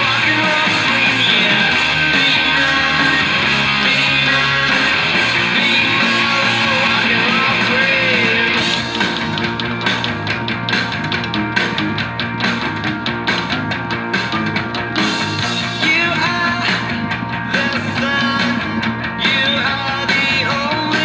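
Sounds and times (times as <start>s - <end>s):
rock and roll guitar: 0.0s - 21.0s.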